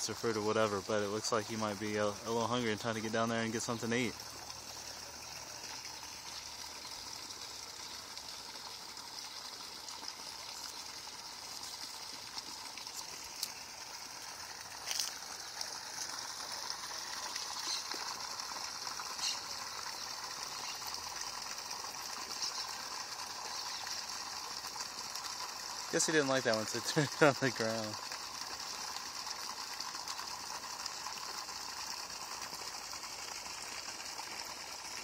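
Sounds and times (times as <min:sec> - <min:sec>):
high-pitched outdoor hiss: 0:00.0 - 0:35.0.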